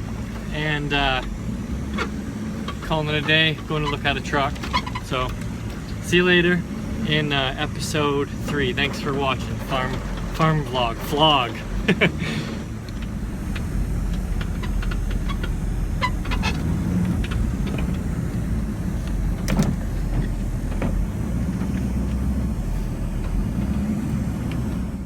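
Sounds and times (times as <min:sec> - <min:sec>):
engine running with low rumble: 0:00.0 - 0:25.0.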